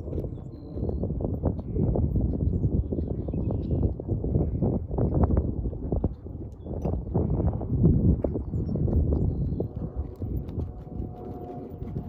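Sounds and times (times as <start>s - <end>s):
hoofbeats on sand: 0.0s - 12.0s.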